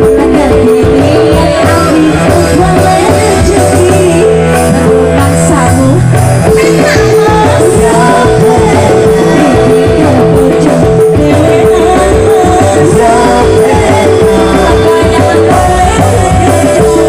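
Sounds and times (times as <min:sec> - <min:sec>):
electric keyboard: 0:00.0 - 0:17.0
live band music: 0:00.0 - 0:17.0
woman singing into microphone: 0:00.0 - 0:17.0.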